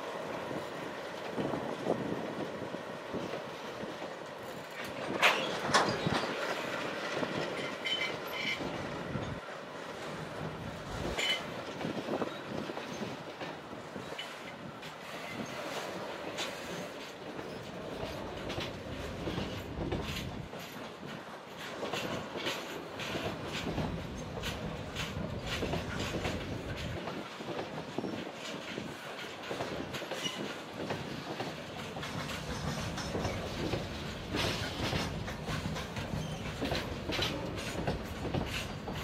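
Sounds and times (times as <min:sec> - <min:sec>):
wheels rumbling on rails: 0:00.0 - 0:39.0.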